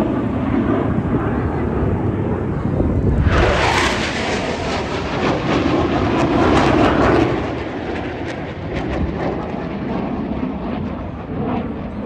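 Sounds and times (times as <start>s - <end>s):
aircraft flying past: 0.0s - 12.0s.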